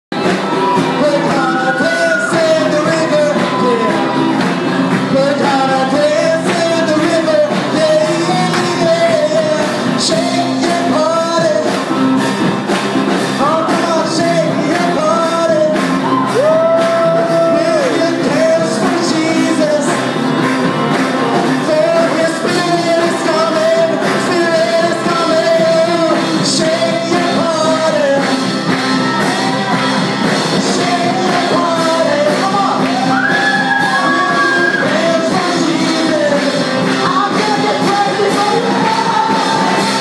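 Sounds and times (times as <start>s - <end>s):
person singing: 0.2s - 12.2s, 13.1s - 40.0s.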